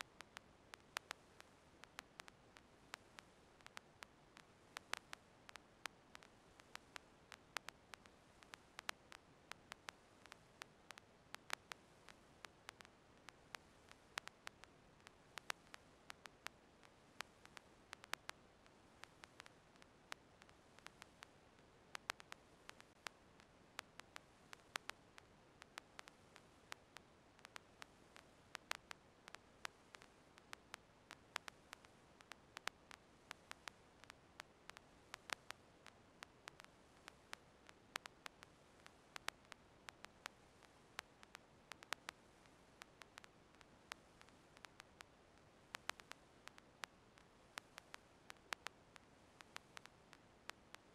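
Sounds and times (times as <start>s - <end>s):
irregular sharp clicks: 0.0s - 21.3s, 21.9s - 50.9s
faint steady hiss: 0.0s - 50.9s.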